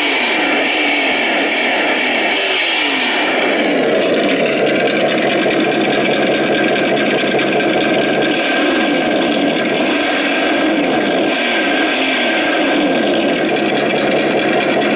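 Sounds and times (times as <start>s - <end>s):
engine pitch rises and falls: 0.0s - 14.9s
simulated engine sound idling: 0.0s - 14.9s.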